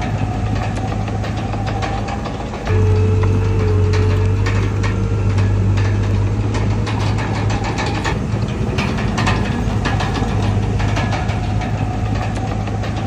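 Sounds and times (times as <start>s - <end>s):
bulldozer diesel engine running: 0.0s - 13.0s
metallic clanks and clicks: 0.0s - 13.0s.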